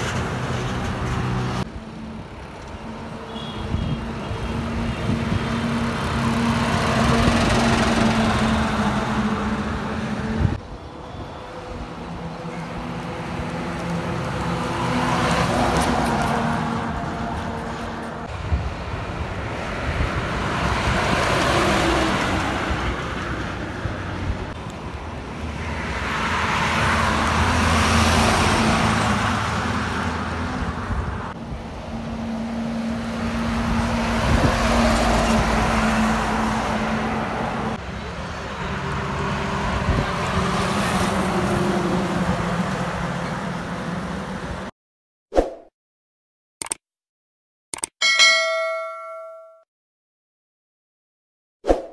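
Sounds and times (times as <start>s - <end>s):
lorries driving past: 0.0s - 44.7s.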